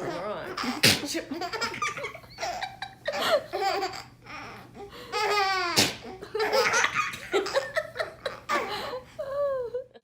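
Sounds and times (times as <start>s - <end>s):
baby laughing: 0.0s - 9.0s.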